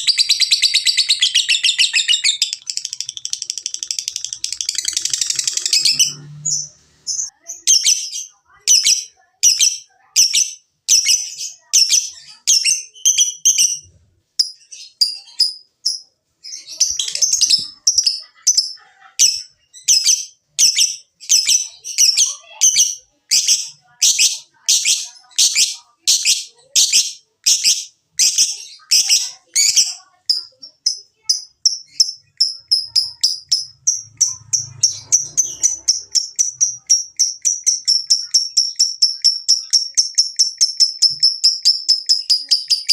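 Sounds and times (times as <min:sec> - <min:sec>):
lovebird chirping and trilling: 0:00.0 - 0:42.9.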